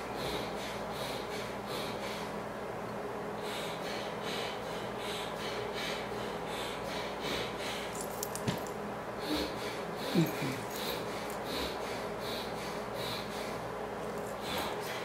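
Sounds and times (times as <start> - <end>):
quick breathing through the nose: 0.1 - 2.4, 3.4 - 8.4, 9.2 - 15.0.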